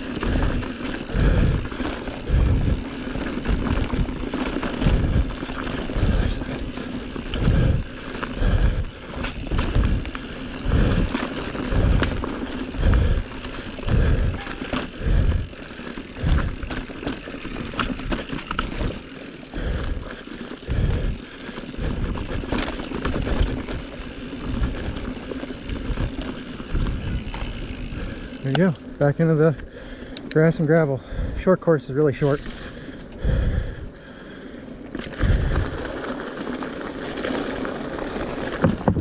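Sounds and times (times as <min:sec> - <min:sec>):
bike clicks and rattles: 0:00.0 - 0:39.0
bike tyres on dirt trail: 0:00.0 - 0:39.0.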